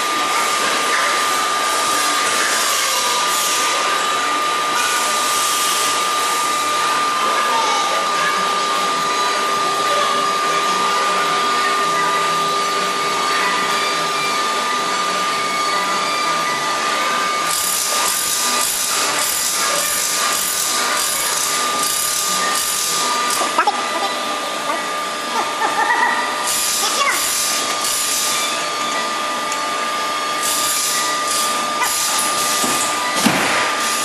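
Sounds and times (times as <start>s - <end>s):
machinery whirring with high whine: 0.0s - 34.0s.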